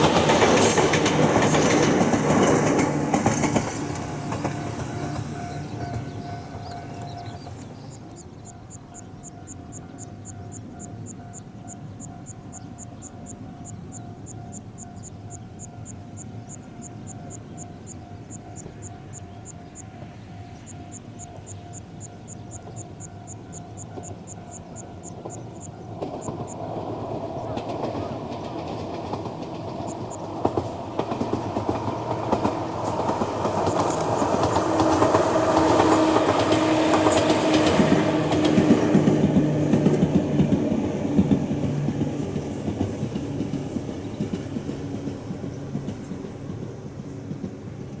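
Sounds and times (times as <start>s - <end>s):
train wheels clacking over joints: 0.0s - 12.6s, 13.6s - 48.0s.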